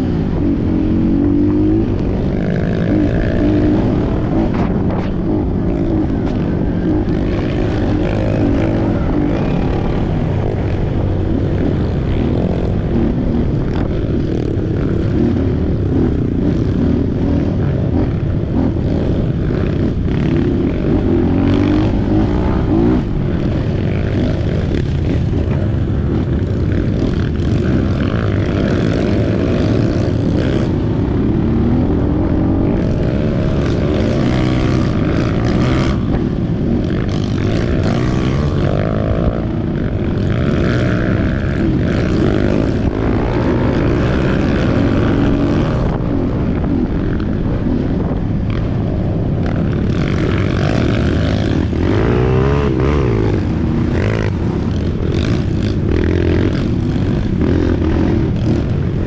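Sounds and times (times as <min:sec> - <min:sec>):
motorcycle engine revving: 0:00.0 - 0:59.0
steady rushing noise: 0:00.0 - 0:59.0.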